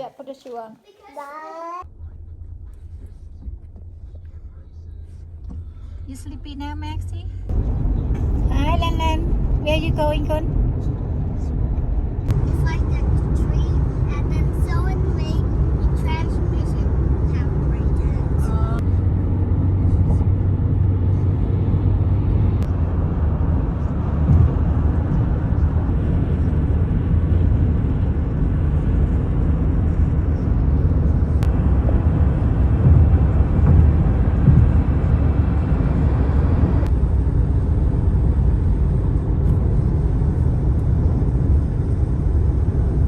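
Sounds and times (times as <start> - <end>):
car cabin road noise: 0.0 - 43.0.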